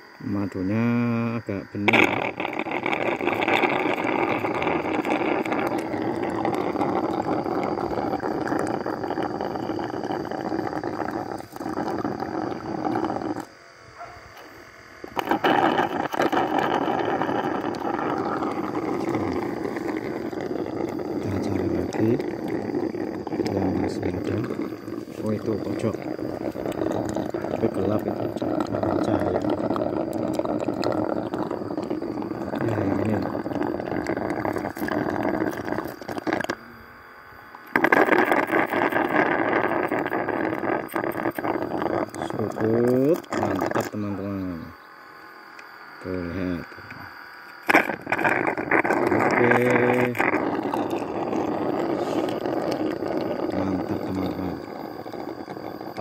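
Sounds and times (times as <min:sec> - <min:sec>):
suction tube drawing honey: 0:00.0 - 0:13.6, 0:14.3 - 0:36.7, 0:37.6 - 0:44.8, 0:45.6 - 0:56.0.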